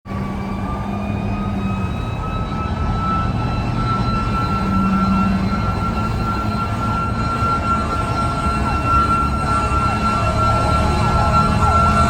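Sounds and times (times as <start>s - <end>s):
diesel engine rumble: 0.0s - 12.0s
fire engine siren: 0.0s - 12.0s.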